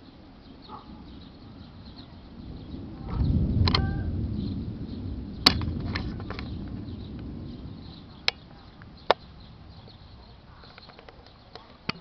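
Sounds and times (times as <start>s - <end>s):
low rolling thunder: 0.0s - 11.0s.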